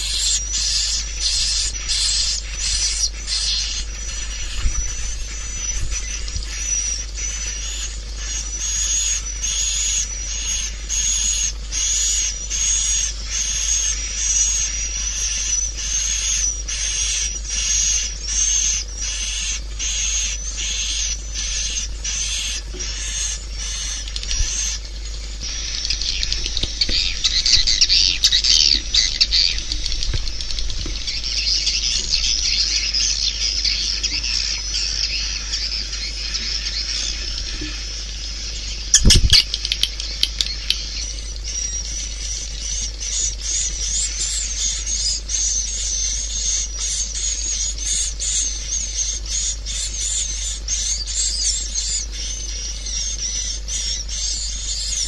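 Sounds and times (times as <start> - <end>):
steady low hum: 0.0 - 55.0
swiftlet chirps and twittering: 0.0 - 55.0.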